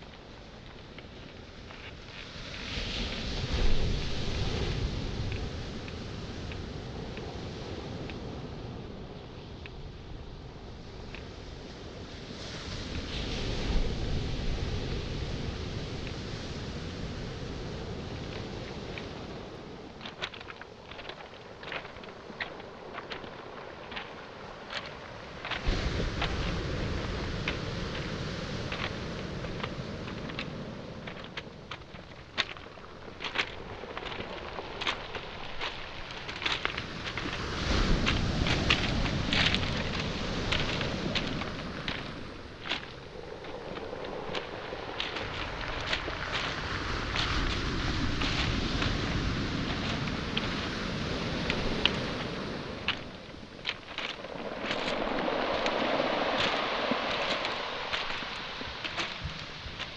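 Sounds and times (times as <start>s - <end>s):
footsteps on pebbles: 0.0s - 8.4s, 16.0s - 59.9s
waves washing on shore: 0.0s - 59.9s
wind on microphone: 0.0s - 59.9s.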